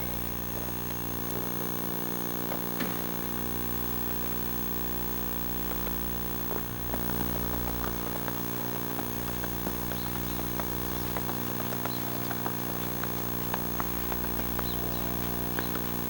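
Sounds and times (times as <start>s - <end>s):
steady electrical buzz: 0.0s - 16.0s.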